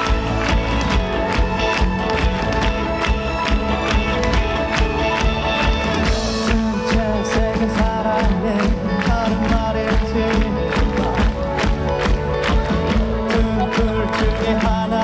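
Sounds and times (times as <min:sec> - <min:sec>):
electric guitar: 0:00.0 - 0:15.0.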